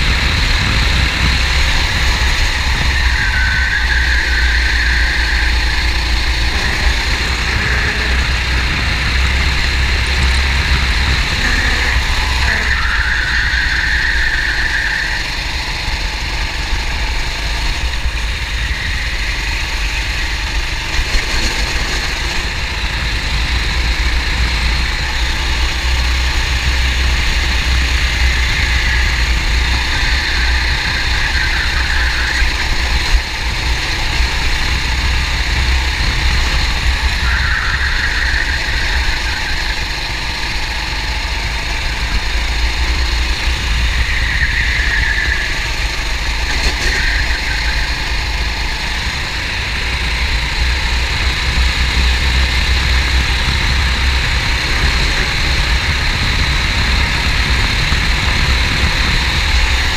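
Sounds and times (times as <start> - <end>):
racing kart engine running hard: 0.0 - 59.9.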